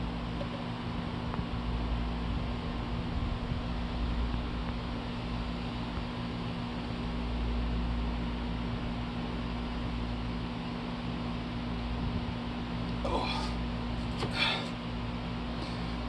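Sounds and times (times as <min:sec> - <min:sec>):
machine hum with low rumble: 0:00.0 - 0:16.0.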